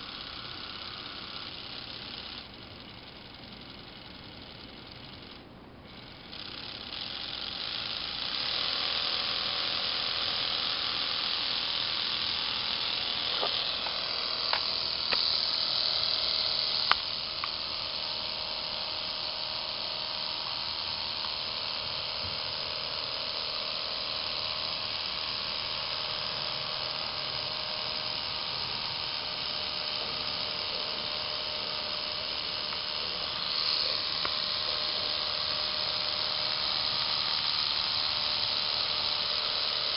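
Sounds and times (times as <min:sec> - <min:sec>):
toy electric motors whirring: 0:00.0 - 0:39.9
sharp clicks: 0:06.0 - 0:39.9.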